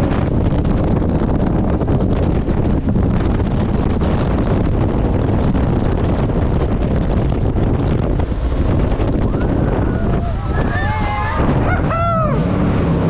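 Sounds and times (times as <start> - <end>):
boat engine: 0.0 - 13.0
rushing water: 0.0 - 13.0
wind buffeting microphone: 0.0 - 13.0.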